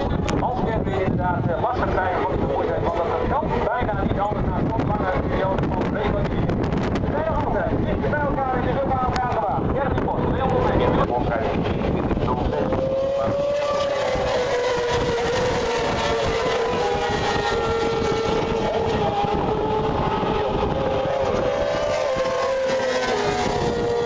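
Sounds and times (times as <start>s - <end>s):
racing motorcycle engines: 0.0s - 24.0s.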